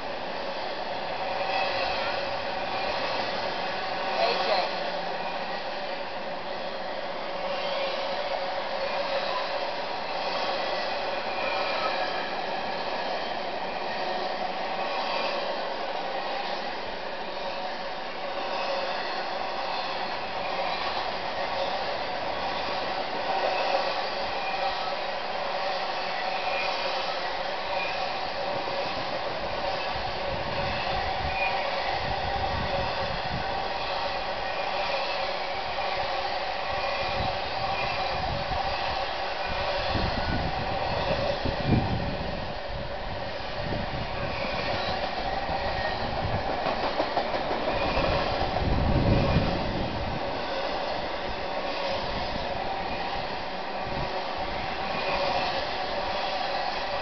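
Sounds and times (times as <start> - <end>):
train wheels rushing on rails: 0.0 - 57.0.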